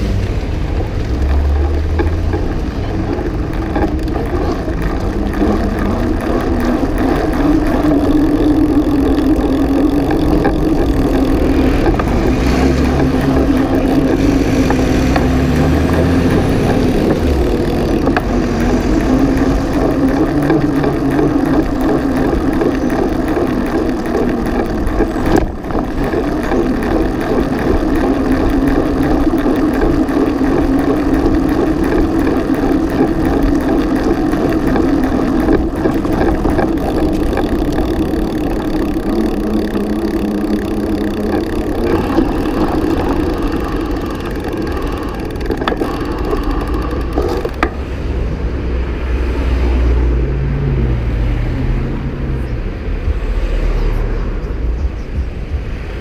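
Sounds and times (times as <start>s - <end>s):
bicycle rolling on pavement: 0.0s - 54.2s.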